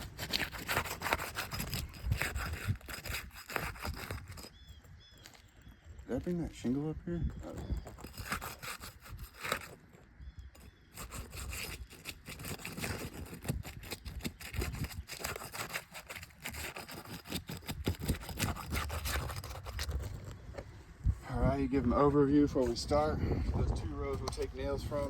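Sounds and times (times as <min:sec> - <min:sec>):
scraping and clicking on shingle roof: 0:00.0 - 0:20.8, 0:22.6 - 0:25.0.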